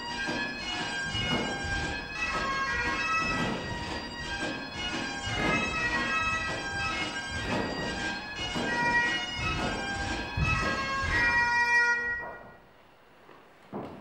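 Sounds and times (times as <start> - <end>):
bagpipe dance tune: 0.0 - 12.6.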